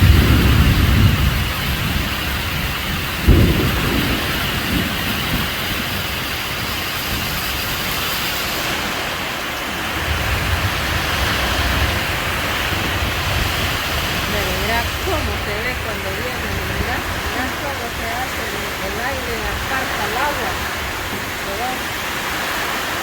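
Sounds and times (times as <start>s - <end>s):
deep thunder rumble: 0.0s - 9.0s, 9.7s - 22.3s
heavy rain and strong wind: 0.0s - 23.0s.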